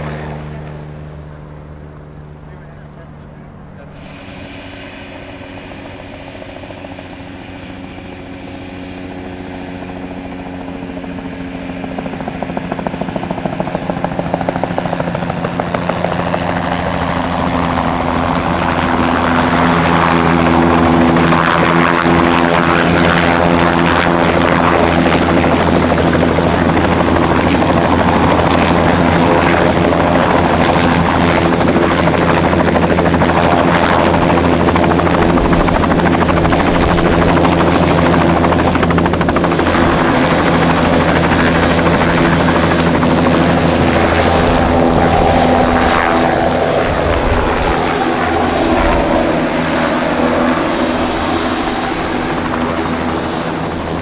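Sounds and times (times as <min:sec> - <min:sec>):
high turbine whine: 0:00.0 - 0:13.8, 0:14.4 - 0:54.0
helicopter turbine and rotor noise: 0:00.0 - 0:54.0.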